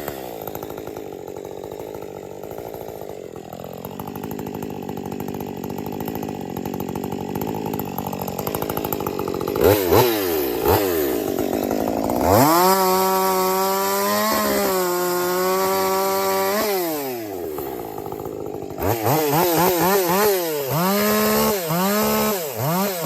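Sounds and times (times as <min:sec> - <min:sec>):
chainsaw revving: 0:00.0 - 0:23.0.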